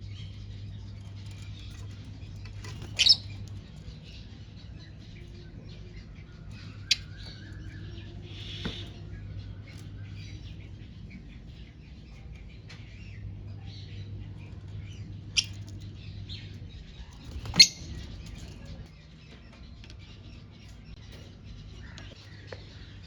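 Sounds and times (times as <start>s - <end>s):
lovebirds chirping: 0.0s - 23.0s
steady low hum: 0.0s - 23.0s.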